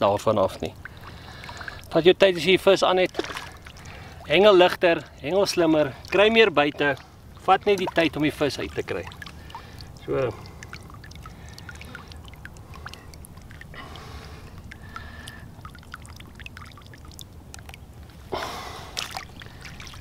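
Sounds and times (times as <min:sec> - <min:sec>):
water dripping: 0:00.0 - 0:20.0
fish splashing in water: 0:00.6 - 0:02.0, 0:02.9 - 0:20.0.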